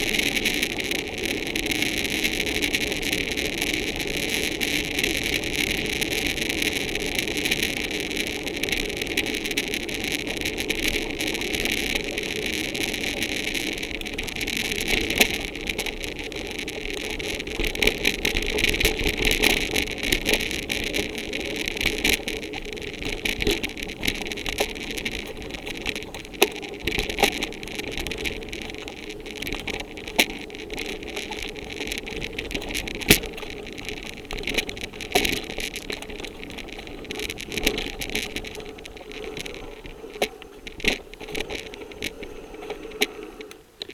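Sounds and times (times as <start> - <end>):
bike rattling: 0.0 - 43.9
wind: 0.0 - 43.9.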